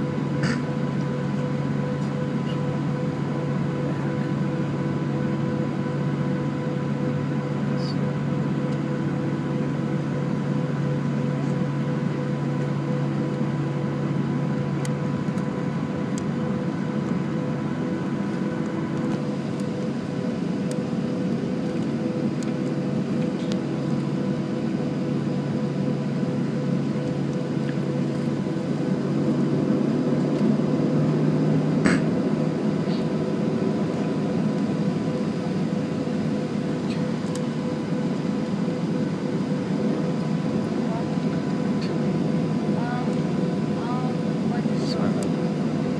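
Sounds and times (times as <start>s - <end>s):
jet engines idling hum: 0.0s - 45.9s.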